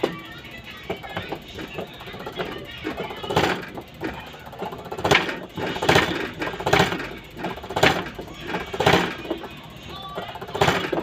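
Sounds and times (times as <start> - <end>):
steady mechanical clatter: 0.0 - 11.0.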